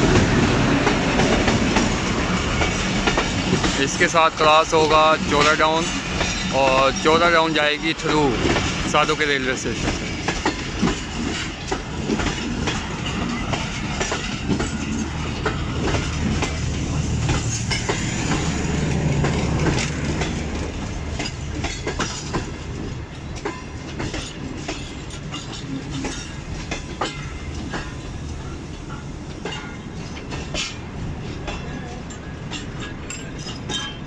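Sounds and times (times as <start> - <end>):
low train rumble: 0.0 - 34.0
train wheels clacking over rail joints: 0.0 - 34.0.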